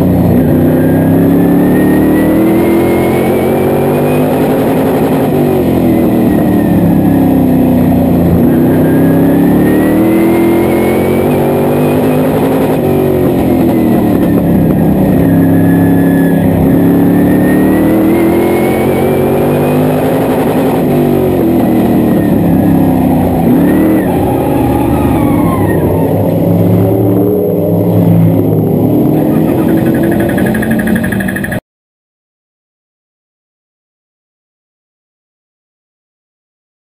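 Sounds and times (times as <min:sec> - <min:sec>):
race car engine accelerating: 0:00.0 - 0:31.6.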